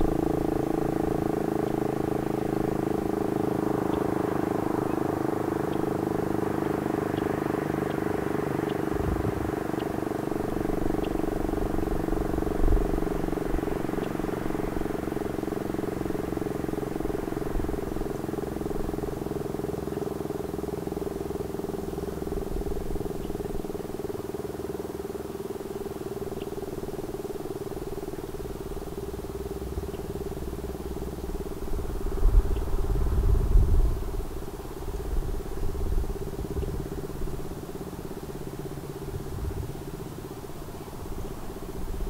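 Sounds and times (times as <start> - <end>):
warning siren steady tone: 0.0 - 42.0.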